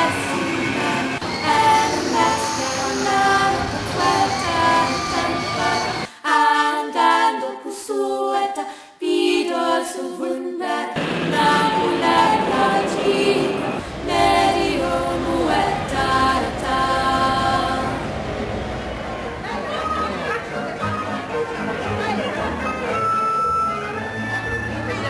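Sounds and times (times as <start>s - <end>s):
voices singing in harmony: 0.0s - 24.7s.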